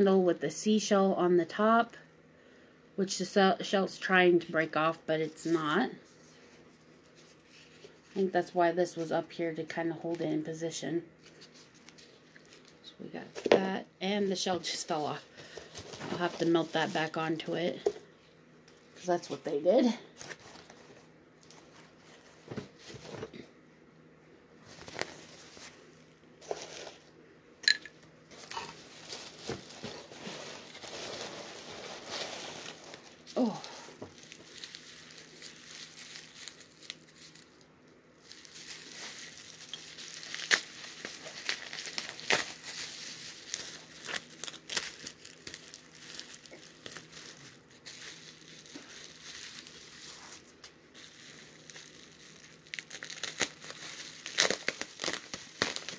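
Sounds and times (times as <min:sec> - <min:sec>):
bubble wrap crinkling and crackling: 0:05.3 - 0:10.6, 0:11.2 - 0:12.9, 0:14.4 - 0:17.8, 0:18.7 - 0:23.3, 0:24.6 - 0:27.1, 0:28.3 - 0:55.9.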